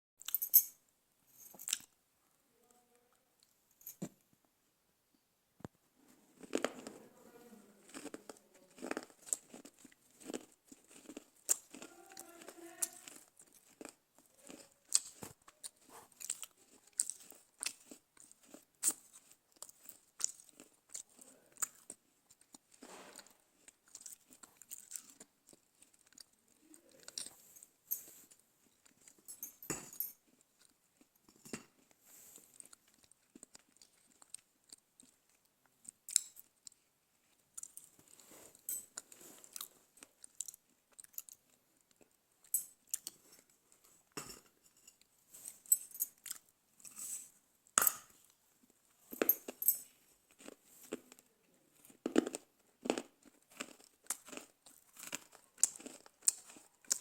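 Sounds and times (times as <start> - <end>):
clay being chewed crunchily: 6.4 - 7.0, 7.8 - 57.0.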